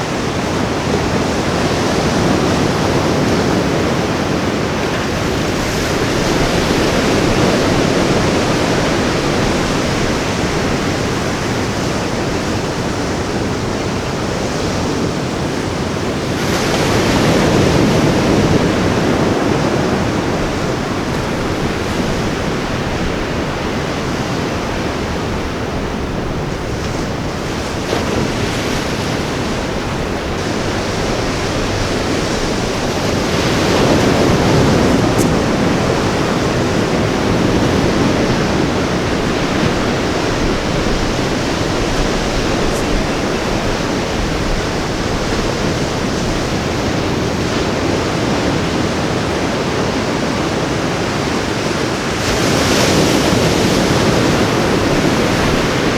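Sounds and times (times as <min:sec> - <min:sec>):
ocean surf washing onto beach: 0:00.0 - 0:55.9.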